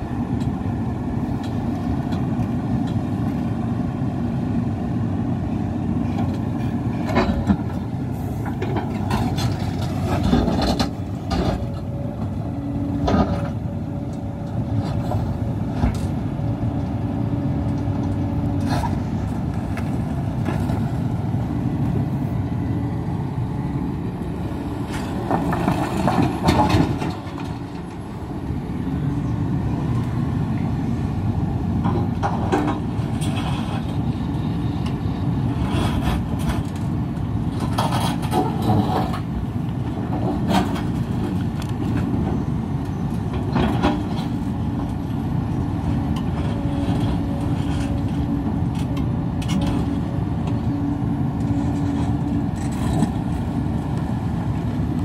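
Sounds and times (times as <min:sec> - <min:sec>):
diesel excavator engine: 0:00.0 - 0:55.0.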